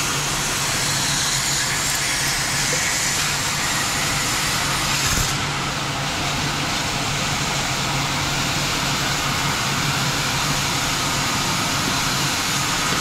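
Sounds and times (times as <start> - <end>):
plasma cutter hissing: 0.0 - 13.0.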